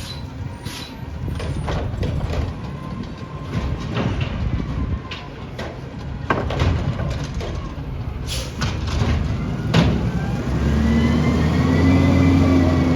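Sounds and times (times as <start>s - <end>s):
garbage truck engine drone: 0.0s - 12.9s.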